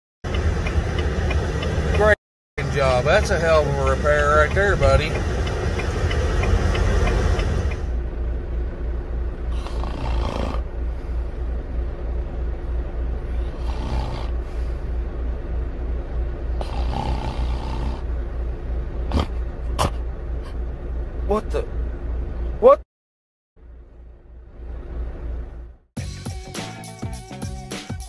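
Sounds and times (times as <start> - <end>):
diesel engine low rumble: 0.2 - 22.8, 23.6 - 27.7.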